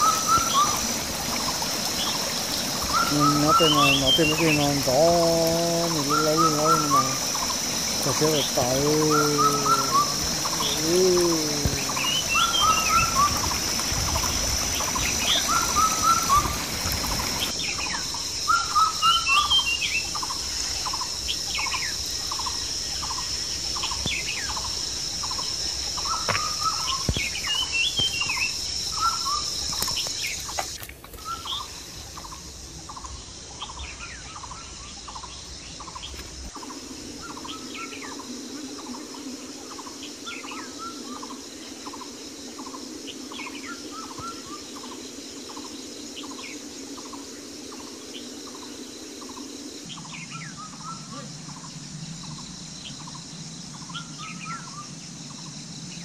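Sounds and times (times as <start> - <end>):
creek running: 0.0 - 54.2
small birds chirping: 0.0 - 54.7
high insect drone: 0.0 - 56.0.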